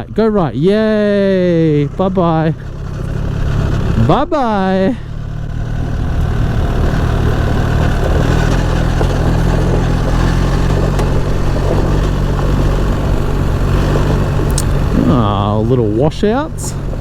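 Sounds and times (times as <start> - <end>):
motorcycle engine running: 0.0 - 17.0
steady rushing noise: 1.9 - 17.0.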